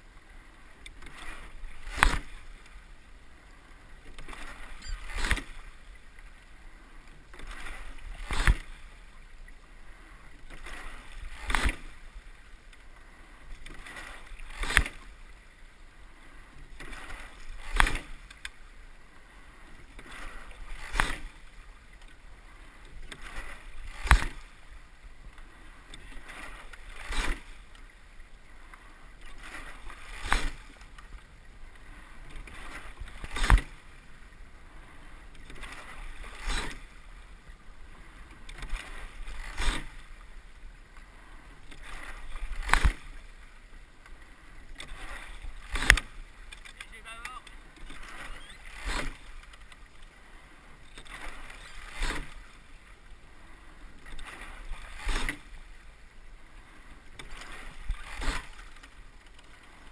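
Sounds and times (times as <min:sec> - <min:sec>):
oars clunking in oarlocks: 0:00.0 - 0:59.9.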